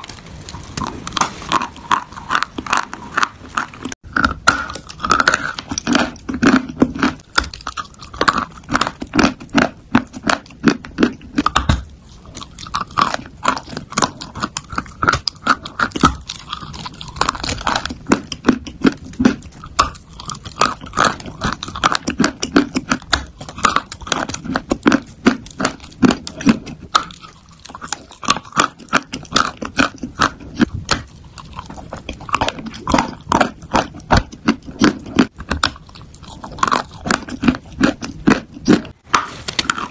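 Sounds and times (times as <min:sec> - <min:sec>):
person crunching chalk: 0:00.0 - 0:39.9.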